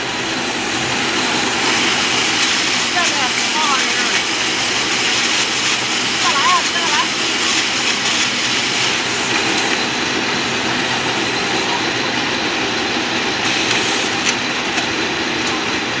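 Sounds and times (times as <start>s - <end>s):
baler-wrapper machine running: 0.0s - 16.0s.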